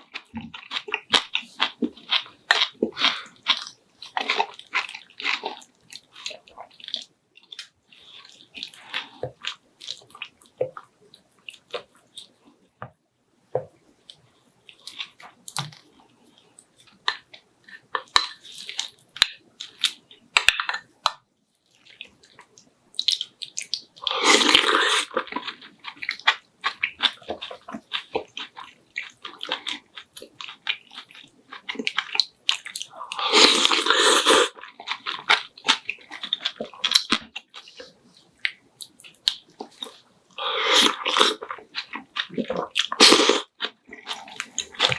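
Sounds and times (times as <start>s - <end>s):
person chewing and crunching: 0.0s - 12.6s, 14.1s - 20.9s, 21.7s - 44.9s.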